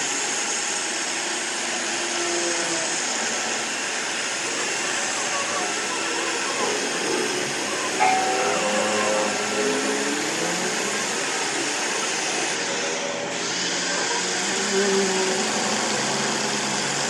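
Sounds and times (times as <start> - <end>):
small engine running: 0.0 - 17.0
even hiss: 0.4 - 17.0.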